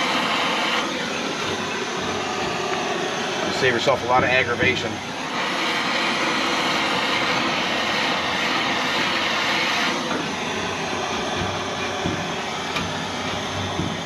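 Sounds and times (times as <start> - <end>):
propane torch hissing: 0.0 - 14.0.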